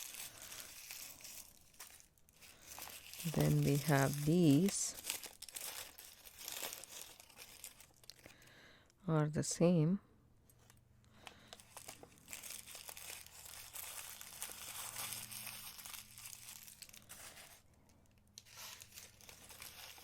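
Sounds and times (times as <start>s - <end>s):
paper wrapping crinkling: 0.0s - 8.5s, 10.6s - 20.0s.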